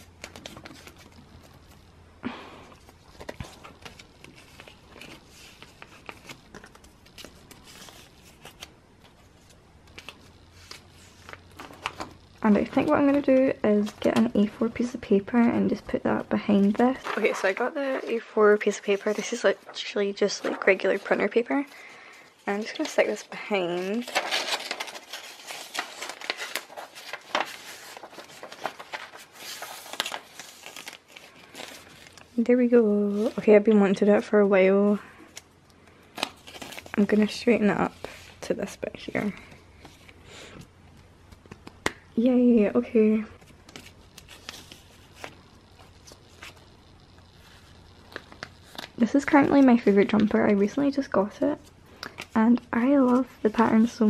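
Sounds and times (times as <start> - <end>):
plastic sleeves rustling: 0.0 - 54.0.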